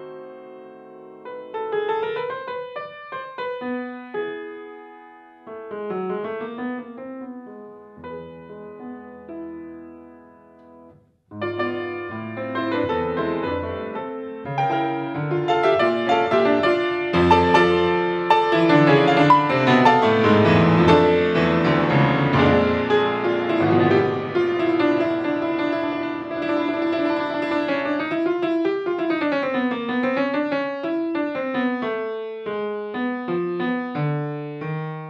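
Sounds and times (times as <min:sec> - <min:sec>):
grand piano playing: 0:00.0 - 0:35.0.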